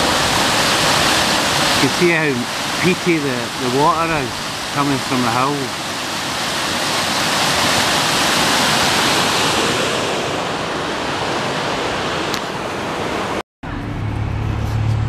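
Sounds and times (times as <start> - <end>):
river rushing over rocks: 0.0 - 13.4.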